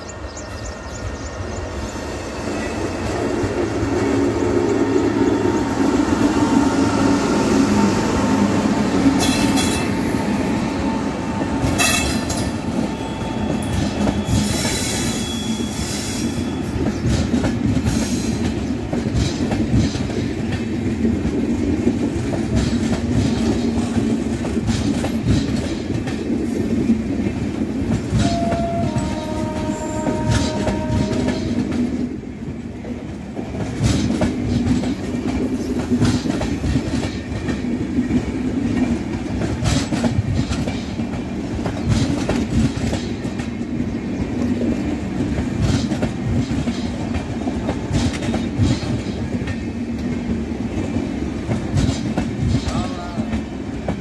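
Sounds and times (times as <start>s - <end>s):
electric locomotive passing: 0.0s - 54.0s
train coaches rumbling: 0.0s - 54.0s
train wheels clicking on rail joints: 2.7s - 54.0s.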